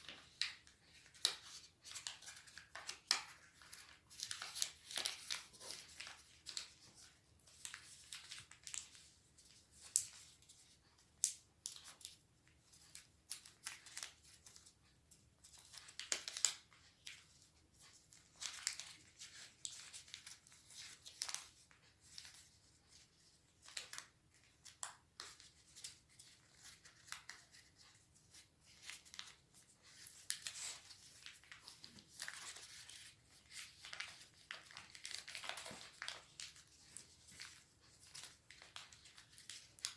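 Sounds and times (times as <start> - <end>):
paper rustling and creasing: 0.0 - 11.0, 15.4 - 39.9.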